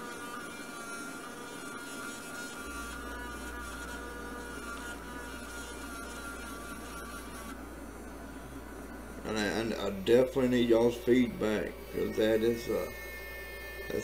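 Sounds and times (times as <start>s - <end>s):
rotary engraving tool whining: 0.0s - 14.0s.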